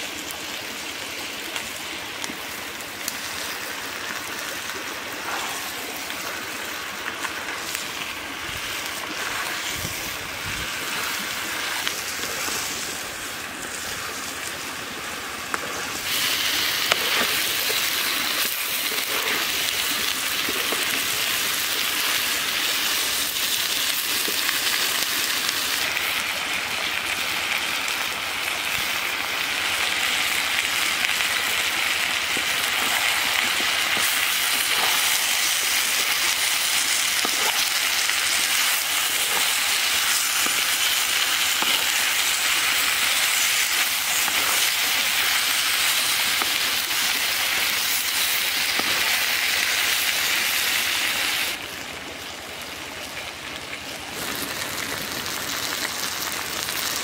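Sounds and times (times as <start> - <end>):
food sizzling in a pan: 0.0 - 51.6.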